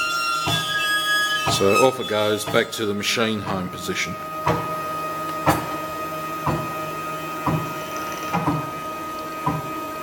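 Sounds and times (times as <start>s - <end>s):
stepper motors whining and humming: 0.0s - 10.0s.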